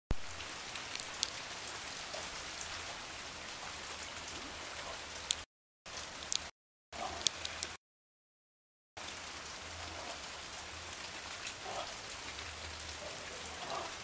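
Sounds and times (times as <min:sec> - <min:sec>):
rain falling on water: 0:00.1 - 0:07.8, 0:09.0 - 0:14.0.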